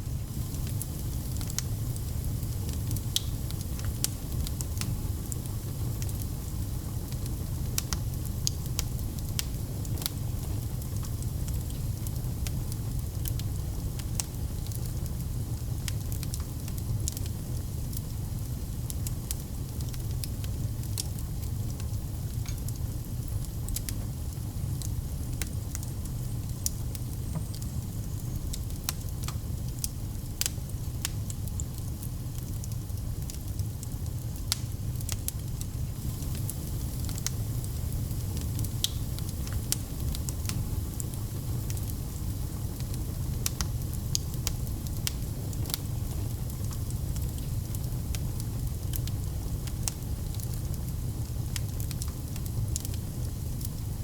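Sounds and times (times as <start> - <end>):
fire crackling and popping: 0.0 - 54.0
fire low rumble: 0.0 - 54.0.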